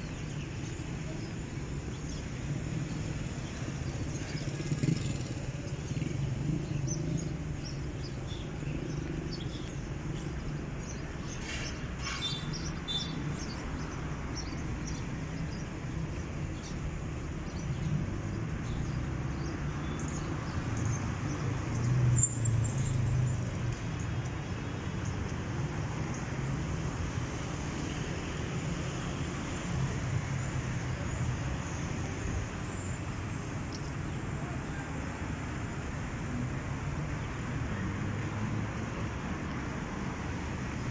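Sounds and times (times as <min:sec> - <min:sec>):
city traffic rumble: 0:00.0 - 0:40.9.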